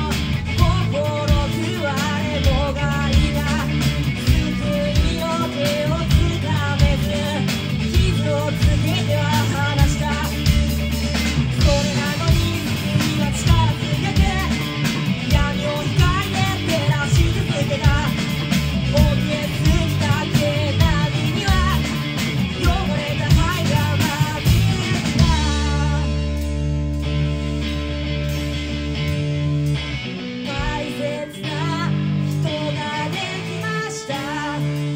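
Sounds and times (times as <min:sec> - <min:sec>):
drum kit: 0:00.0 - 0:34.9
ringing guitar and bass notes: 0:00.0 - 0:34.9
rock band playing live: 0:00.0 - 0:34.9.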